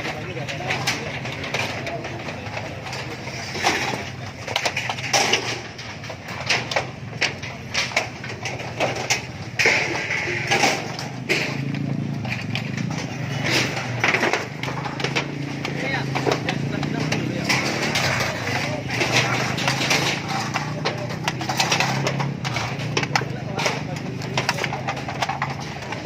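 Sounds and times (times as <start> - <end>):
debris knocking and clattering: 0.0 - 26.0.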